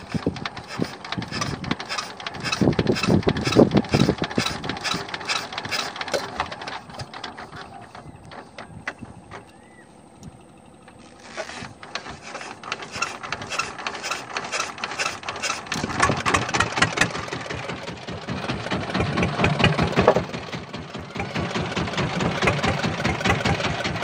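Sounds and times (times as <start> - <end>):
boat engine chugging: 0.0 - 24.0.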